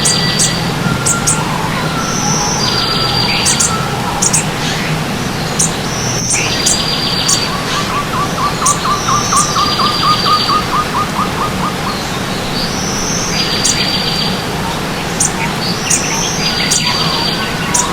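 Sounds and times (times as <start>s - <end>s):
birds singing: 0.0s - 17.9s
stream water rushing: 0.0s - 17.9s.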